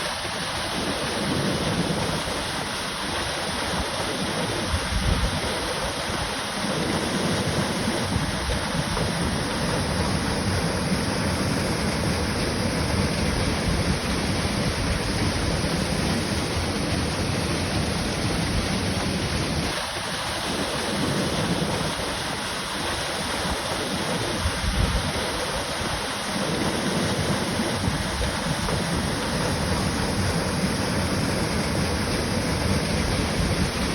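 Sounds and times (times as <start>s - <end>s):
waterfall pouring into a pool: 0.0s - 33.9s.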